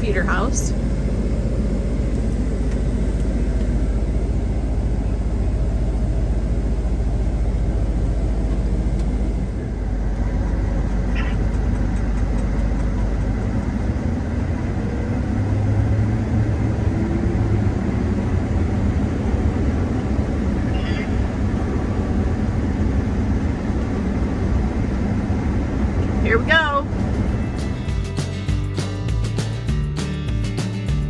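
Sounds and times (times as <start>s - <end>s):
combine harvester droning: 0.0s - 30.8s
deep hum: 0.0s - 31.0s.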